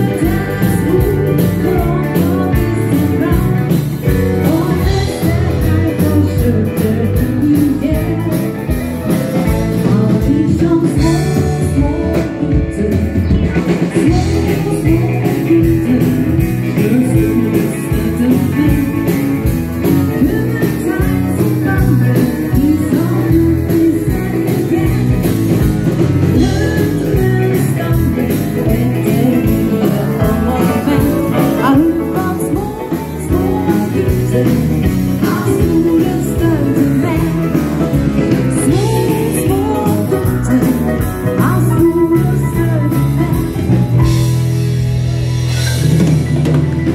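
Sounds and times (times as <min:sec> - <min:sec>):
person singing: 0:00.0 - 0:46.1
live rock and roll band: 0:00.0 - 0:46.9.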